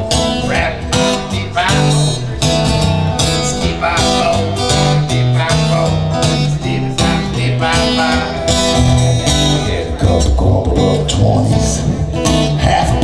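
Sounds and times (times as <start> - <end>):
low bass line: 0.0 - 13.0
strummed acoustic guitar: 0.0 - 13.0.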